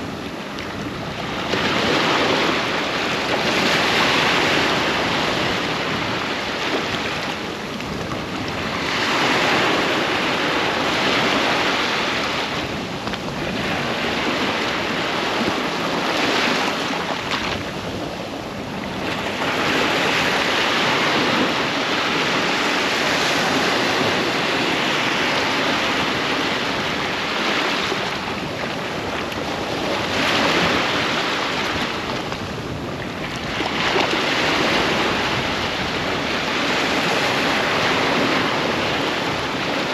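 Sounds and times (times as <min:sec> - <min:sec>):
ocean waves breaking on beach: 0:00.0 - 0:39.9
wind on microphone: 0:00.0 - 0:39.9.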